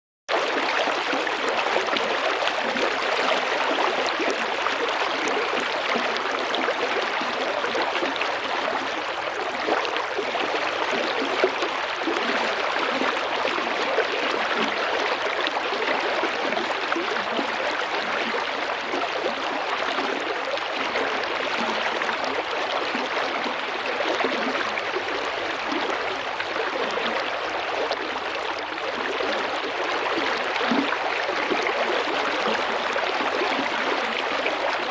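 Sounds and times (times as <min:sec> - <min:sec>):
small river flowing over stones: 0:00.3 - 0:34.9.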